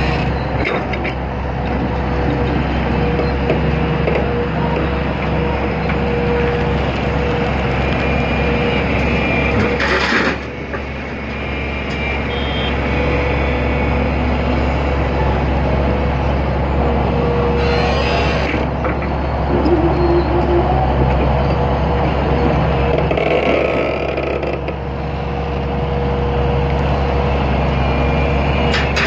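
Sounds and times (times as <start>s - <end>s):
excavator engine and hydraulics: 0.0s - 29.0s.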